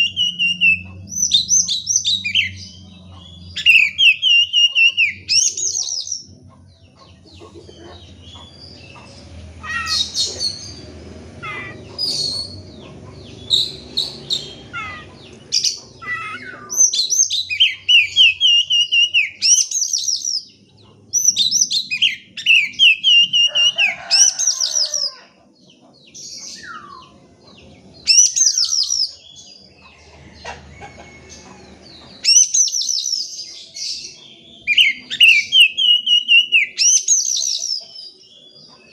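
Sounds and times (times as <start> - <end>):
magpie-robin singing trills: 0.0 - 25.1, 27.9 - 29.8, 32.1 - 38.9.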